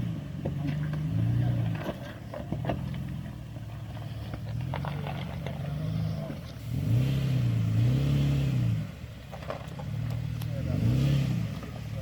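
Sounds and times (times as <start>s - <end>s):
truck engine under throttle: 0.0s - 12.0s.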